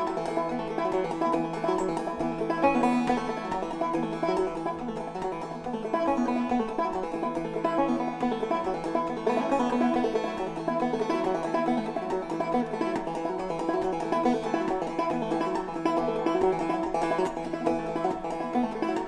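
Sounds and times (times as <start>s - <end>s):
old-time string music with banjo: 0.0s - 19.0s.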